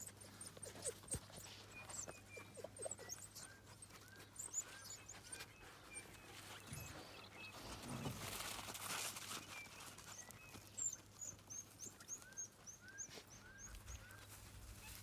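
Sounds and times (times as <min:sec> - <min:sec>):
faint rustle: 0:00.0 - 0:15.0.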